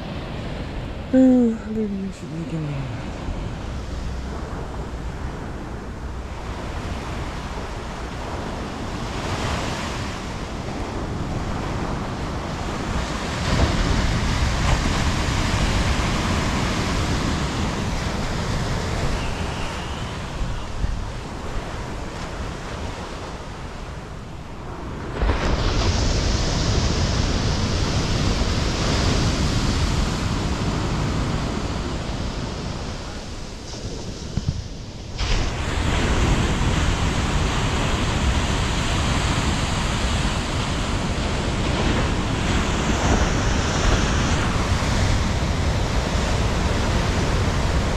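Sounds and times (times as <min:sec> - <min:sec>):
wind buffeting microphone: 0:02.5 - 0:47.9
surf breaking on a beach: 0:02.9 - 0:47.9.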